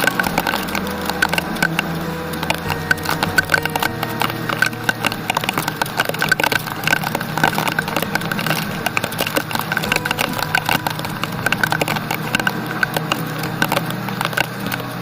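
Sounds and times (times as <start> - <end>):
heavy rain on hard surface: 0.0 - 15.0
low steady hum: 0.0 - 15.0.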